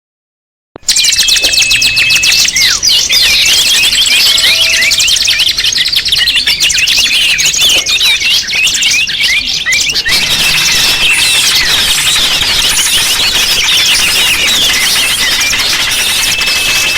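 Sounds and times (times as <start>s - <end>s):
small birds chirping and trilling: 0.9s - 16.9s.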